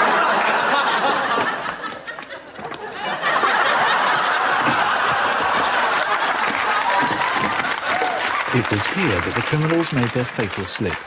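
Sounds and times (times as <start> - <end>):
studio audience laughing: 0.0 - 11.0.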